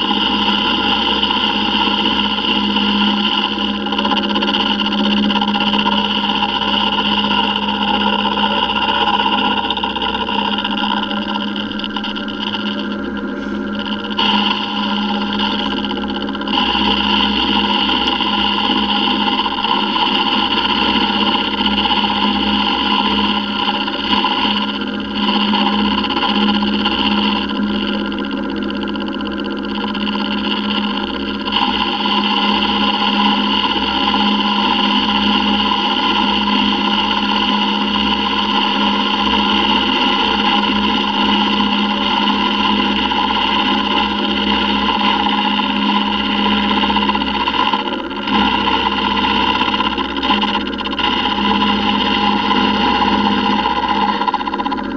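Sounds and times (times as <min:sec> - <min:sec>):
end mill cutting metal whine: 0:00.0 - 0:54.9
milling machine motor hum: 0:00.0 - 0:54.9.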